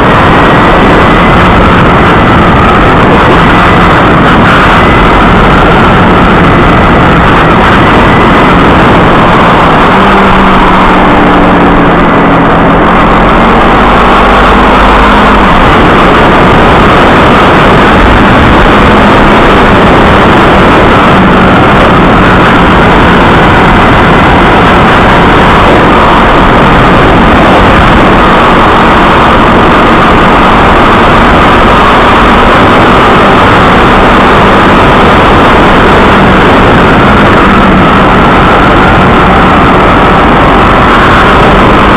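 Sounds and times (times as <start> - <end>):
motorcycle engine running: 0.0 - 41.9
wind rush on microphone: 0.0 - 41.9.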